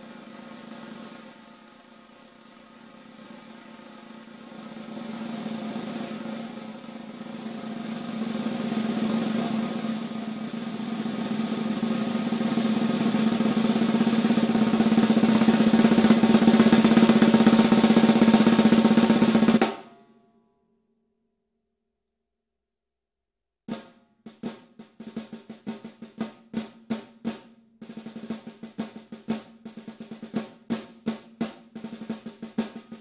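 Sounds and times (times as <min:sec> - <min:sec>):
snare drum roll: 0:00.0 - 0:20.0, 0:23.7 - 0:33.0.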